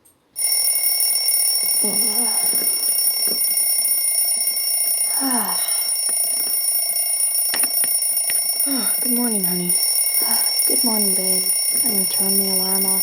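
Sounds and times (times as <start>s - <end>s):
alarm clock ringing: 0.4s - 13.0s.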